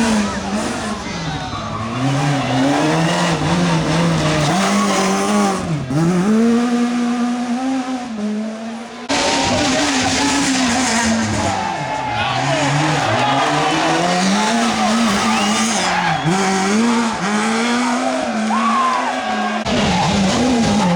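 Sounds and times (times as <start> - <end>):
rally car engine revving: 0.0 - 20.9.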